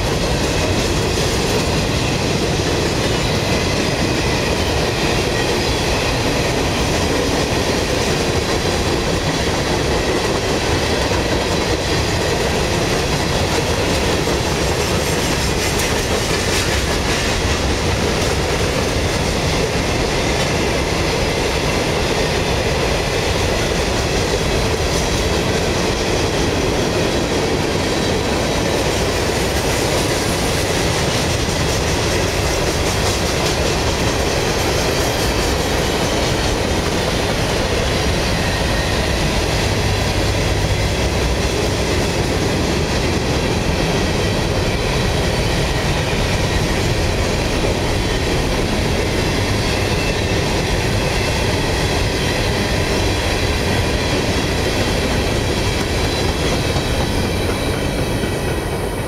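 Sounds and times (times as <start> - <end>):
freight cars rolling on rails: 0.0 - 59.0.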